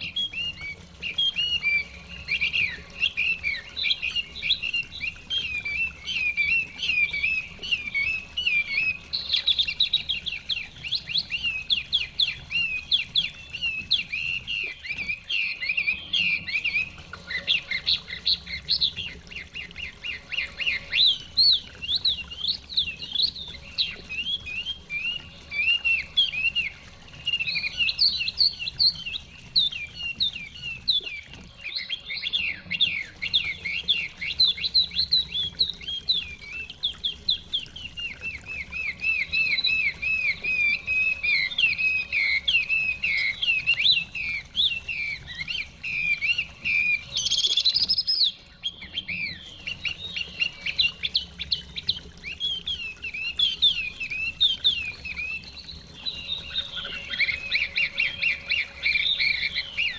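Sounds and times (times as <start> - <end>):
bird singing whistled song: 0.0 - 59.9
stream water rushing: 0.0 - 59.9.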